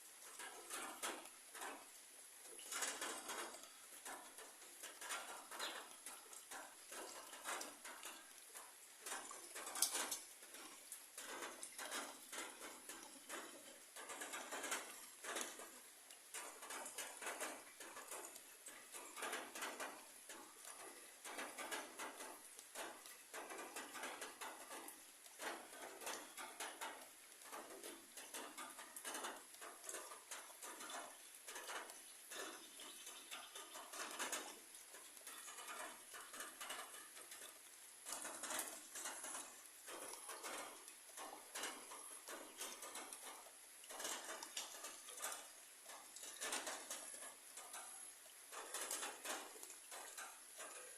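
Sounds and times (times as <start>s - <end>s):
rain hissing: 0.0s - 50.9s
raindrops pattering on leaves: 0.0s - 50.9s.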